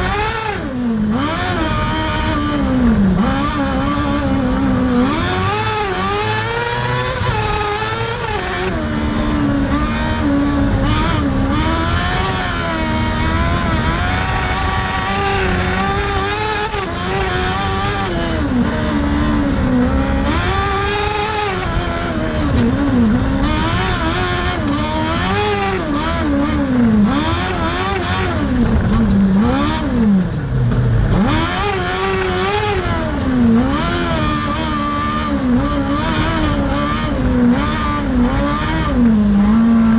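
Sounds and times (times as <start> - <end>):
racing car engine revving: 0.0 - 39.9.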